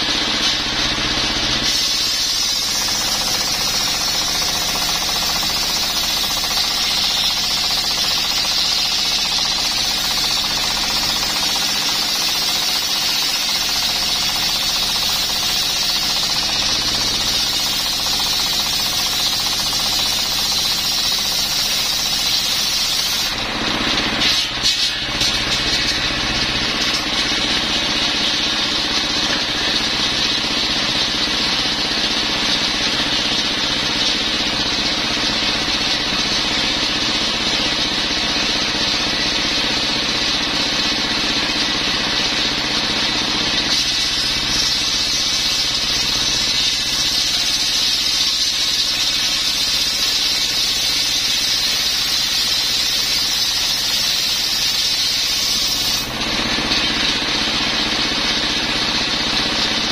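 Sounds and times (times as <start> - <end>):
diesel engine running: 0.0 - 51.0, 51.7 - 59.9.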